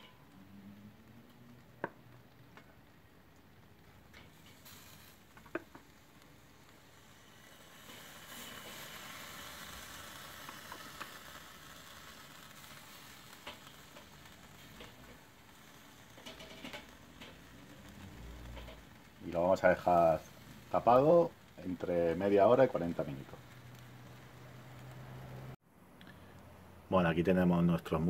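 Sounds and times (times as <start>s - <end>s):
chicken sizzling on grill: 0.0s - 25.6s.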